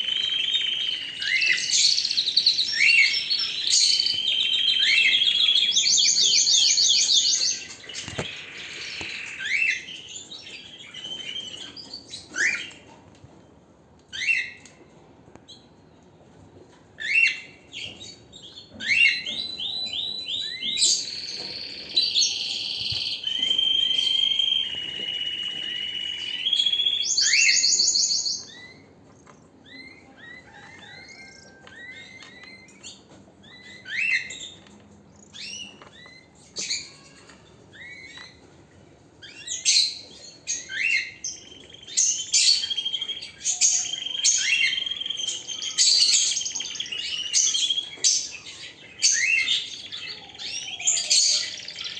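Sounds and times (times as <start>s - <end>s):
canary singing: 0.0s - 12.9s, 16.8s - 51.9s.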